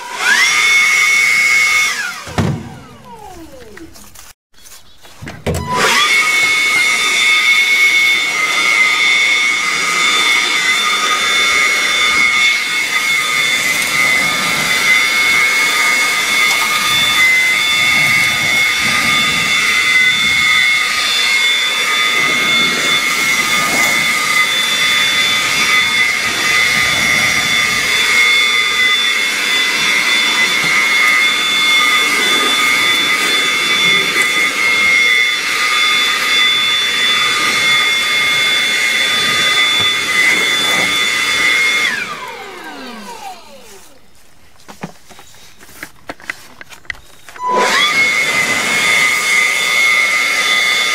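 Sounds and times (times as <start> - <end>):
leaf blower running: 0.0 - 4.4, 5.5 - 50.9.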